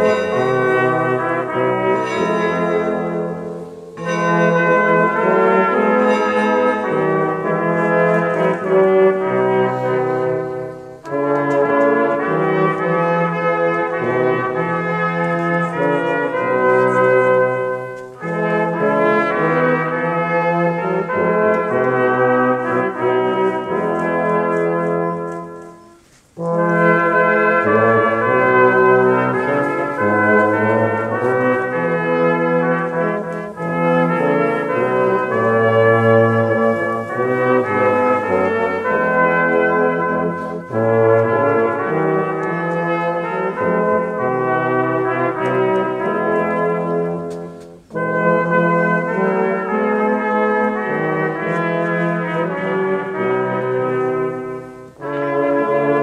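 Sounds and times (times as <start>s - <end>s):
brass choir playing sustained chords: 0.0s - 56.0s.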